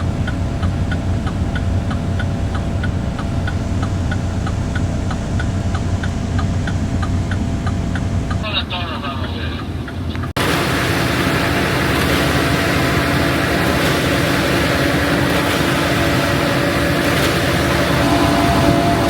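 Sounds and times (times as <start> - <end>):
diesel truck engine running: 0.0 - 19.0
road noise: 0.0 - 19.0.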